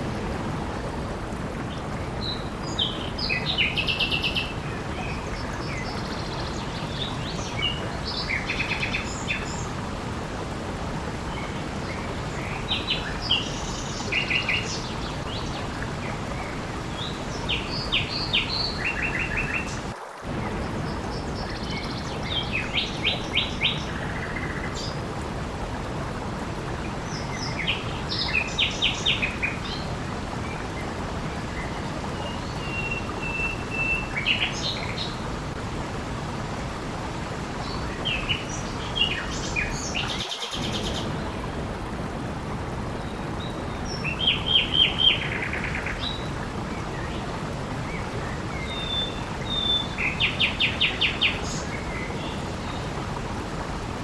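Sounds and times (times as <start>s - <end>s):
flowing water rushing: 0.0s - 54.0s
songbirds trilling and chirping: 1.6s - 35.6s, 36.2s - 41.8s, 42.8s - 53.2s.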